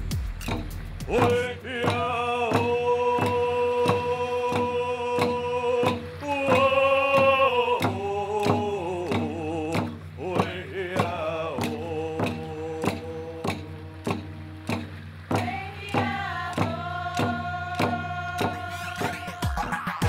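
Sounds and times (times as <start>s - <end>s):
hand drum beat: 0.0s - 20.0s
person singing: 1.1s - 19.8s.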